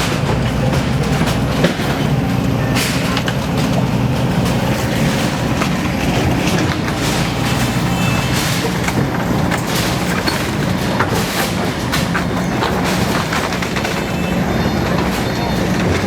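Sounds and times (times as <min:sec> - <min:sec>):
heavy engine rumble: 0:00.0 - 0:16.0
knocks and rattles: 0:00.0 - 0:16.0.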